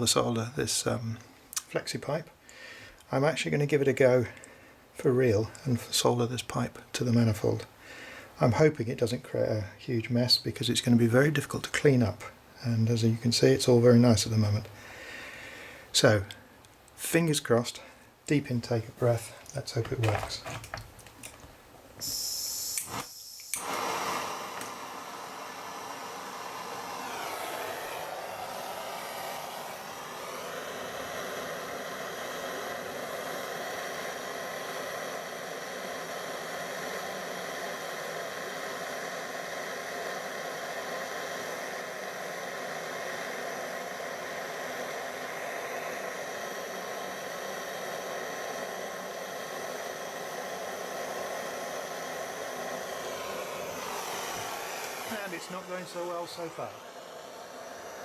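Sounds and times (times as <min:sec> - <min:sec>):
blow lamp roaring hiss: 0:00.0 - 0:58.0.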